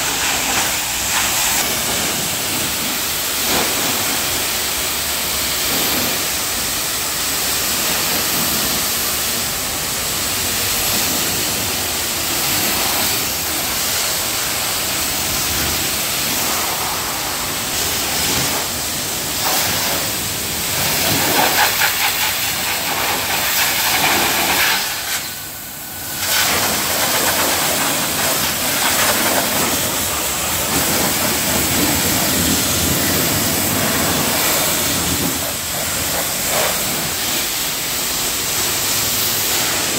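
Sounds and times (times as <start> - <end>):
pressure washer spraying metal: 0.0 - 39.9.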